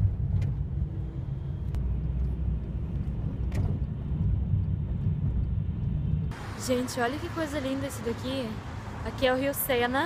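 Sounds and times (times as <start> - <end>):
road and engine rumble in van: 0.0 - 10.0.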